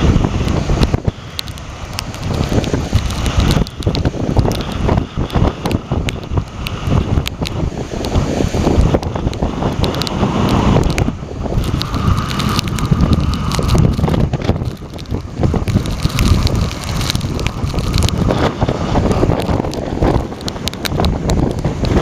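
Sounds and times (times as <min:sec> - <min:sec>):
sharp crackles: 0:00.0 - 0:22.0
strong wind buffeting microphone: 0:00.0 - 0:22.0
waves breaking against quay: 0:00.0 - 0:22.0.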